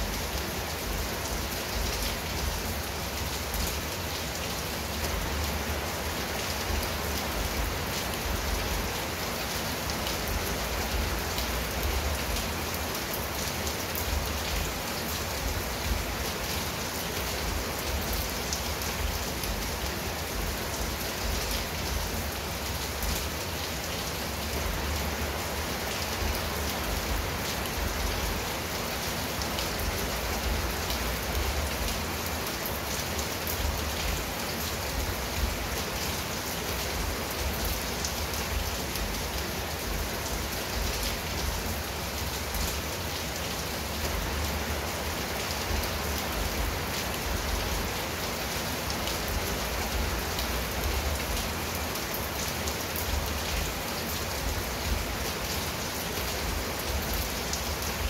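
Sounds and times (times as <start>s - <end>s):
rain on roof tiles and leaves: 0.0s - 58.0s.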